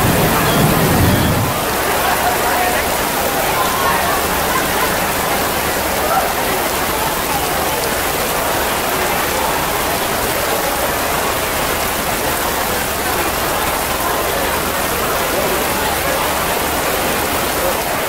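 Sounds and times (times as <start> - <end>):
heavy rain on a tent: 0.0 - 18.0.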